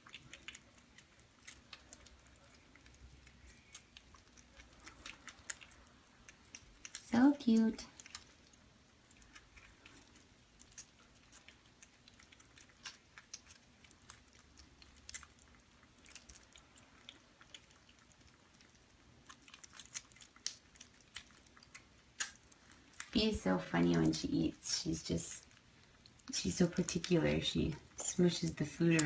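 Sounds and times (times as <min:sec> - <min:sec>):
kittens crunching dry kibble: 0:00.0 - 0:29.0.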